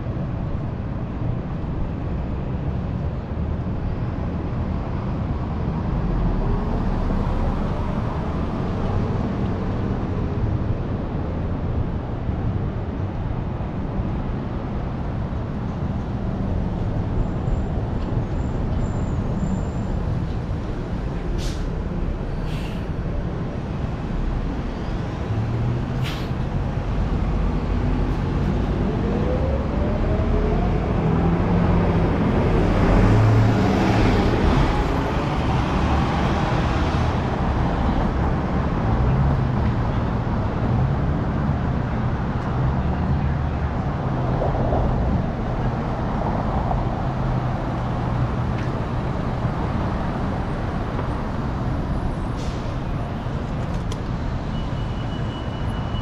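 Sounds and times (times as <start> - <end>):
rumble of passing traffic: 0.0 - 56.0.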